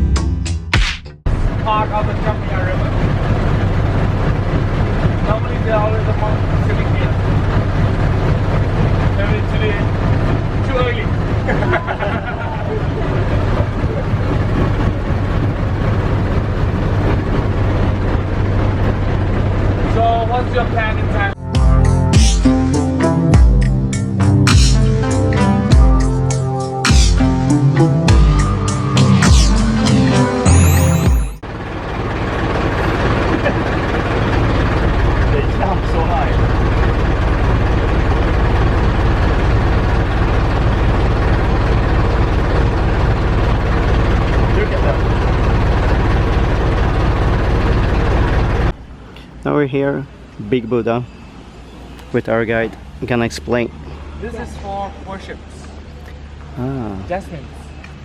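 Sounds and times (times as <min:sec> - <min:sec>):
motorboat engine droning: 0:01.3 - 0:58.0.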